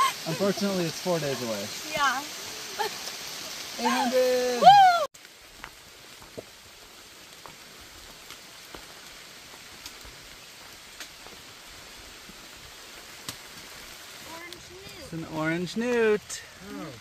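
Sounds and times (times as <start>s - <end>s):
rain on leaves: 0.0s - 17.0s.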